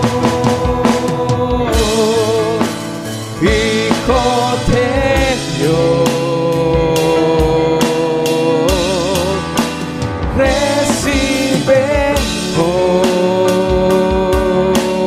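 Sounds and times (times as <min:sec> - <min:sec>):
drum beat: 0:00.0 - 0:15.0
electronic keyboard: 0:00.0 - 0:15.0
person singing: 0:00.0 - 0:15.0.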